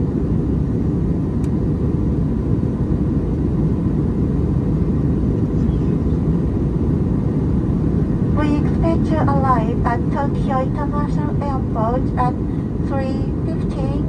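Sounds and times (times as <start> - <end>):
airplane cabin drone: 0.0 - 14.0.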